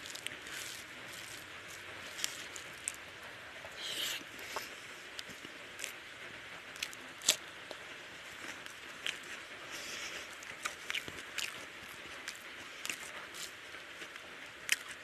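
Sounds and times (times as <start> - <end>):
wet chewing and lip smacks: 0.0 - 6.0, 6.7 - 15.0
fingers squishing rice: 0.0 - 15.0.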